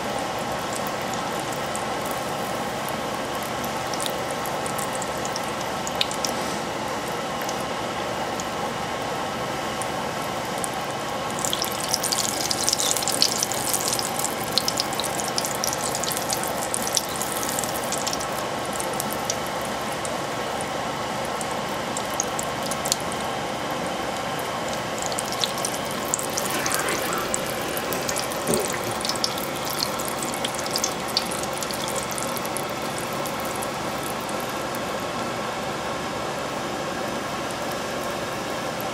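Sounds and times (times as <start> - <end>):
oil crackling and popping: 0.0 - 6.4, 9.8 - 35.2
steady droning hum: 0.0 - 38.9.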